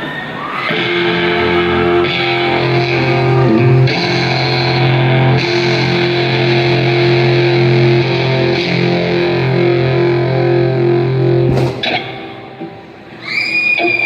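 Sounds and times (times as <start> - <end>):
crowd screaming and cheering: 0.0 - 14.0
distorted electric guitar riff: 0.6 - 14.0.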